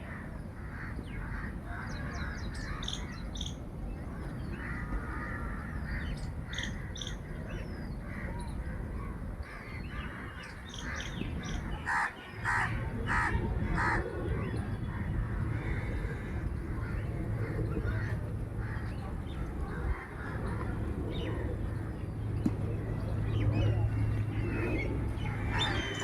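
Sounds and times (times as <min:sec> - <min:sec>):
steady low rumble: 0:00.0 - 0:26.0
loud bird calls: 0:00.1 - 0:26.0.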